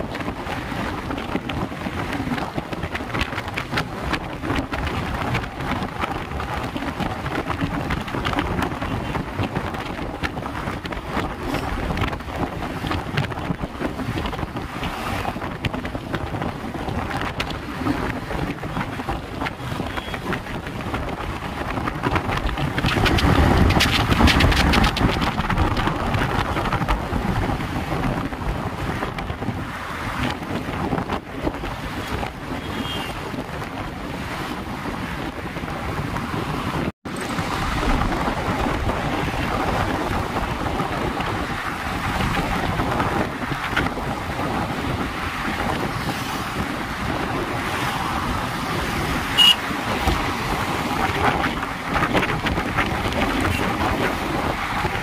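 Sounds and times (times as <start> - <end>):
passing traffic: 0.0 - 55.0
wind rushing over microphone: 0.0 - 55.0.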